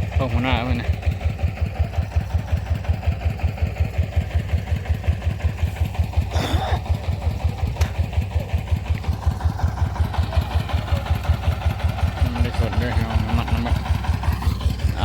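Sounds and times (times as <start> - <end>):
threshing machine engine thumping: 0.1 - 15.0.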